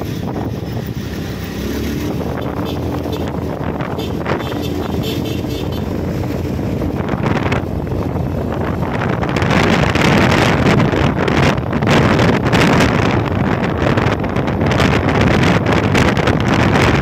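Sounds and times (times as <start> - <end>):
vehicle running on road: 0.0 - 17.0
wind on microphone: 0.0 - 17.0.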